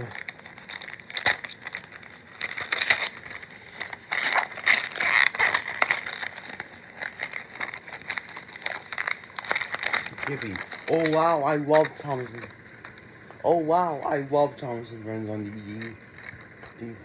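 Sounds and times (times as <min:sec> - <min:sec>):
wrapping paper crinkling and tearing: 0:00.0 - 0:13.2, 0:15.2 - 0:17.0.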